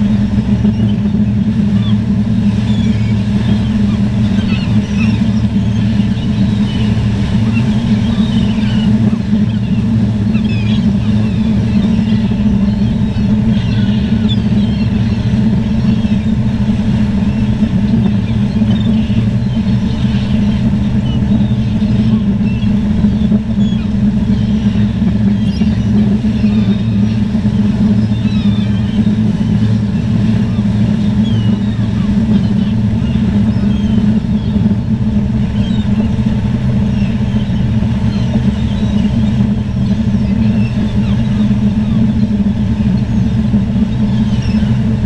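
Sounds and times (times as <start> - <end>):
engine drone: 0.0 - 45.0
seabird calls: 0.0 - 45.0.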